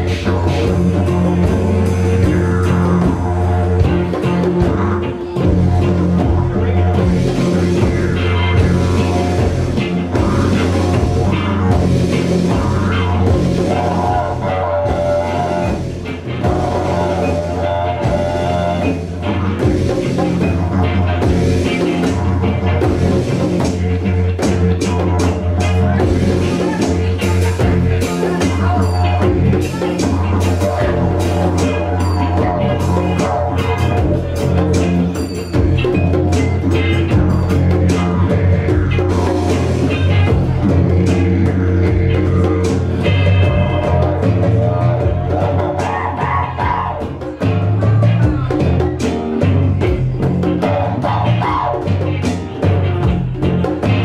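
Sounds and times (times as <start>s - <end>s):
bass guitar: 0.0s - 54.0s
didgeridoo drone: 0.0s - 54.0s
electric guitar: 0.0s - 54.0s
hand drums: 0.0s - 54.0s.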